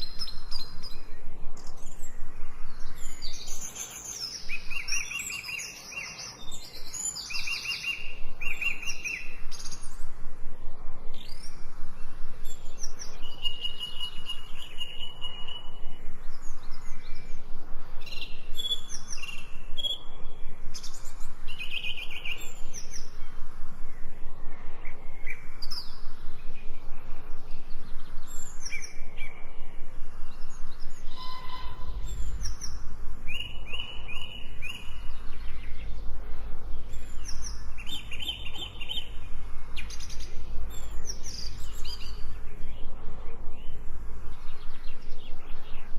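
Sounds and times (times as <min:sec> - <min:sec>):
birds chirping and trilling: 0:00.0 - 0:45.9
rapid pulsing background noise: 0:00.0 - 0:45.9.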